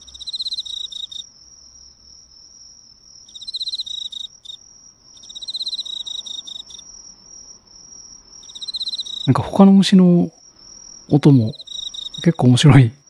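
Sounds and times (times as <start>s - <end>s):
cricket trilling: 0.0s - 13.0s.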